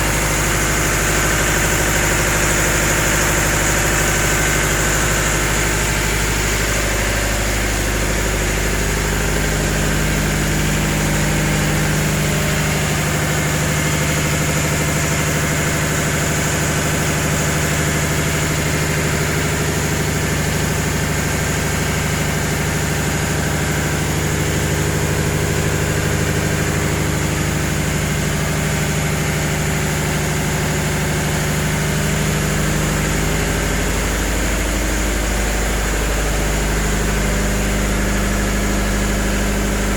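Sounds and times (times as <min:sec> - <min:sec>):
boat engine machinery droning: 0:00.0 - 0:39.9.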